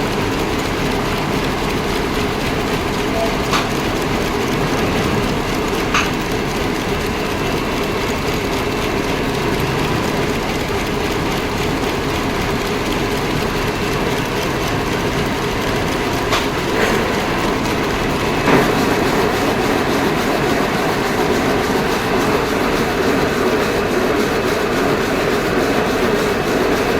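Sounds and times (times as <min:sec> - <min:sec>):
machine clattering: 0:00.0 - 0:26.9.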